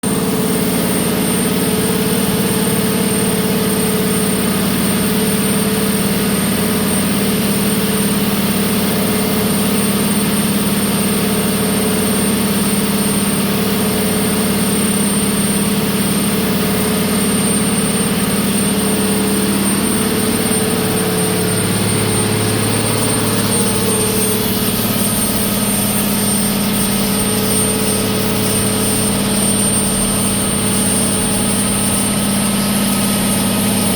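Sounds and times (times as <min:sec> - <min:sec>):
marine diesel engine drone: 0:00.0 - 0:33.9
thin high whine: 0:00.1 - 0:33.9.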